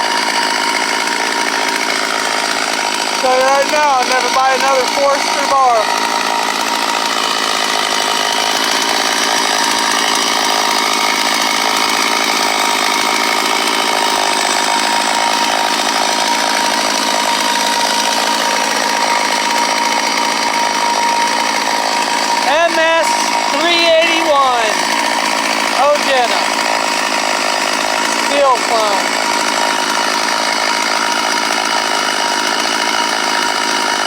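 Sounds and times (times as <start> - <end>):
chainsaw running steadily: 0.0 - 34.0.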